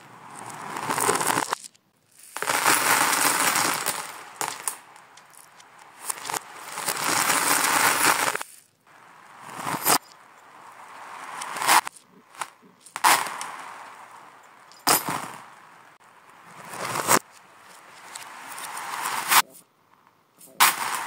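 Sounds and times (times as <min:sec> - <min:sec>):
reversed plastic beads clattering: 0:00.3 - 0:08.7, 0:09.4 - 0:16.0, 0:16.6 - 0:19.4, 0:20.4 - 0:21.0.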